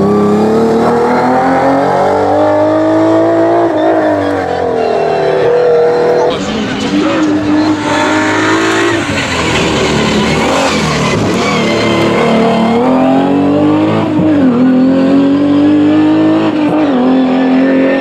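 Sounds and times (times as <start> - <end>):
racing car engine revving: 0.0 - 18.0.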